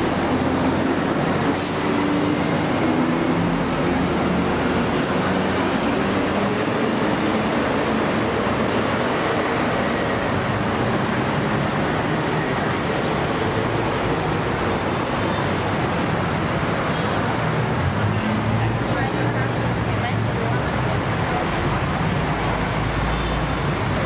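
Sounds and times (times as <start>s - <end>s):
bus and truck engines passing: 0.0s - 24.0s.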